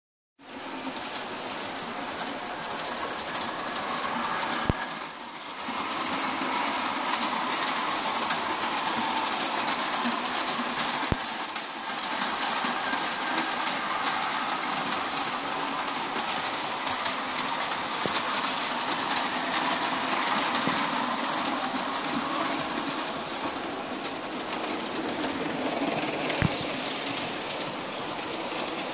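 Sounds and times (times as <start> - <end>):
model train motor and gear whine: 0.5 - 28.9
wheels clicking over rail joints: 0.5 - 28.9.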